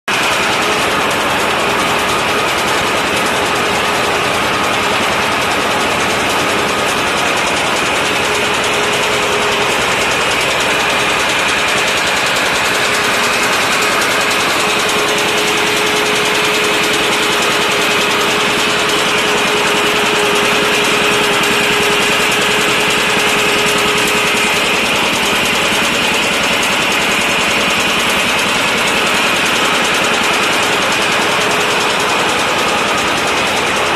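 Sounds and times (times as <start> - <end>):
small engine running: 0.1 - 33.9
mechanical clatter of drive: 0.2 - 33.9.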